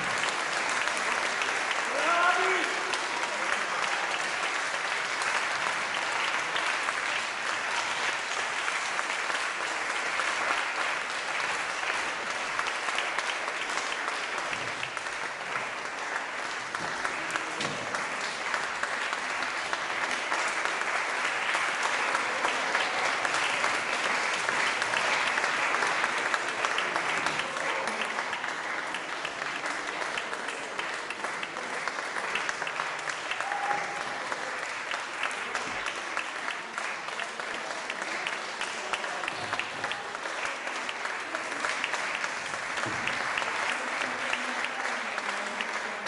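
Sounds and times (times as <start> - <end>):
large audience applauding: 0.0 - 46.0.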